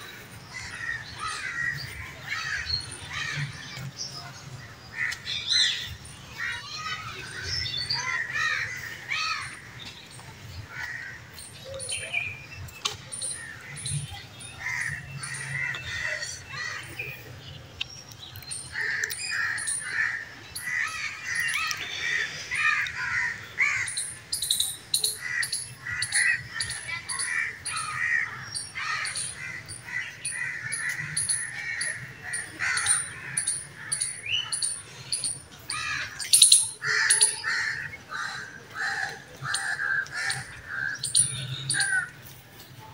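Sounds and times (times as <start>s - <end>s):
birds calling: 0.0s - 42.7s.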